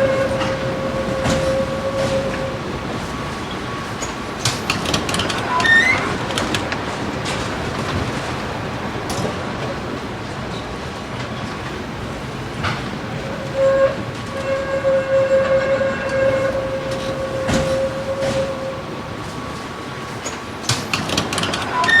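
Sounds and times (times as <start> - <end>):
tram rolling on rails: 0.0 - 22.0.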